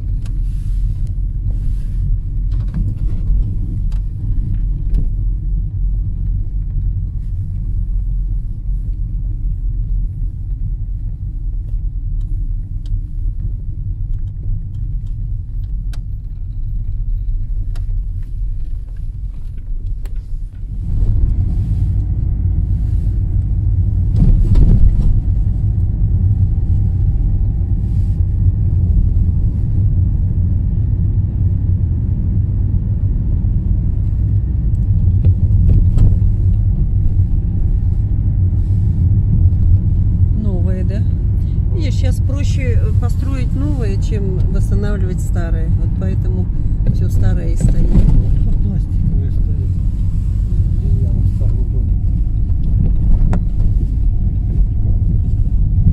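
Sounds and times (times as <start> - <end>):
car engine and tyres rumbling: 0.0 - 55.9.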